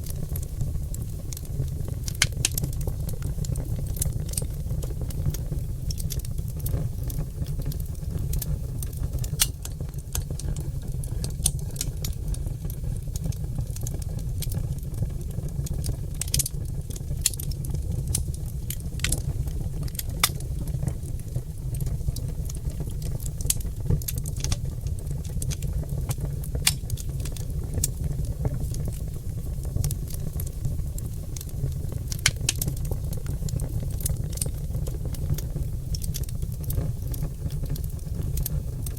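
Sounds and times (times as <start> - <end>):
fire low rumble: 0.0 - 38.9
logs crackling and popping: 0.0 - 38.9.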